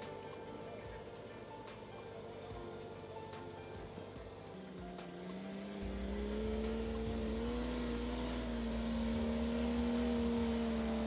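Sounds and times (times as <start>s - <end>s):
vehicle engine rumbling under load: 0.0s - 11.0s.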